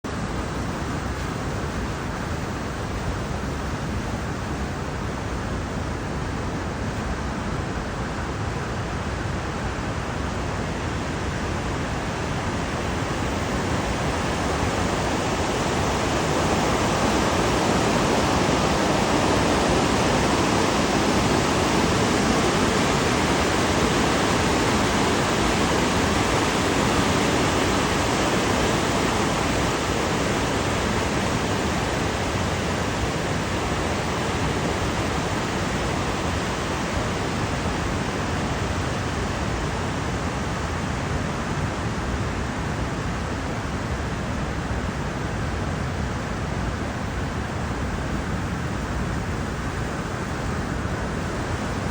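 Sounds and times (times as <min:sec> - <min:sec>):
river water rushing: 0:00.1 - 0:51.9.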